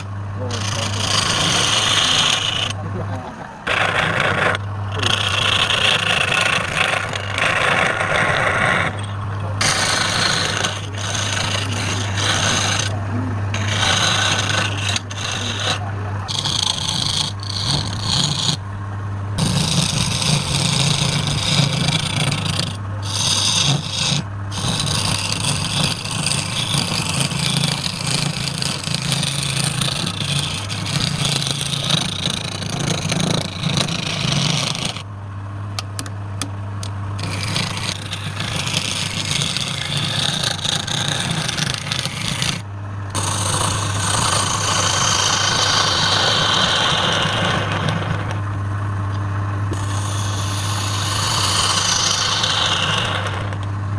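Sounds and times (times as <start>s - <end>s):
lathe motor hum: 0.0s - 35.1s, 35.8s - 53.9s
tool scraping spinning wood: 0.0s - 35.1s, 35.8s - 48.6s, 49.6s - 53.9s.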